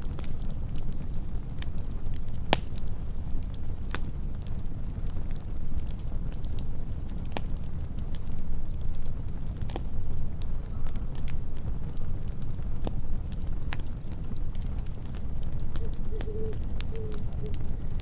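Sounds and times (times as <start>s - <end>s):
campfire crackling and popping: 0.0s - 18.0s
crickets chirping: 1.6s - 2.0s, 2.8s - 7.4s, 8.1s - 18.0s.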